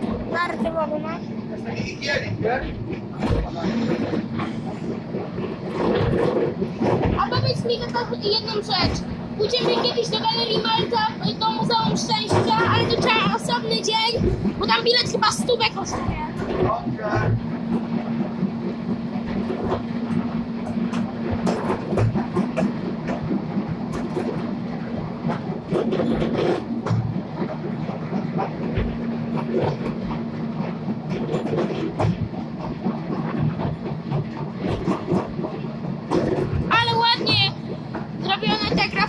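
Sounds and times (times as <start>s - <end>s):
train running rumble: 0.0s - 39.0s
wheels clicking over rails: 0.0s - 39.0s.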